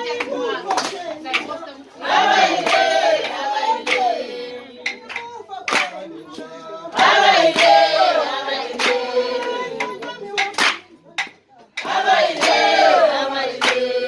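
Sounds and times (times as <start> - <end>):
group of voices singing: 0.0 - 14.0
hand clapping: 0.1 - 1.6, 2.5 - 4.2, 4.8 - 6.4, 7.3 - 13.9.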